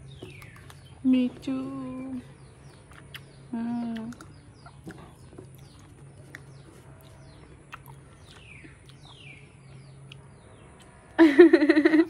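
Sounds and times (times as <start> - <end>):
faint birds chirping: 0.0 - 12.0
low steady hum: 0.0 - 12.0.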